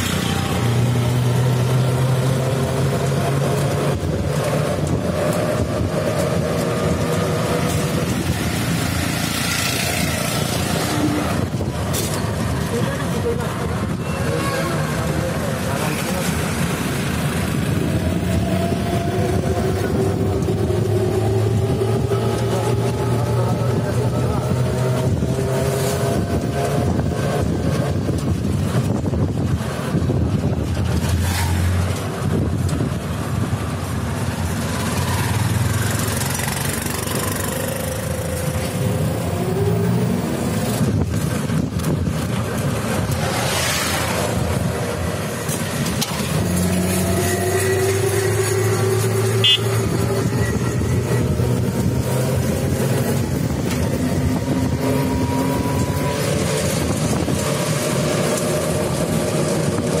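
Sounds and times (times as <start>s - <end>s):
vehicle engine: 0.0s - 60.0s
wind and tyre rush: 0.0s - 60.0s.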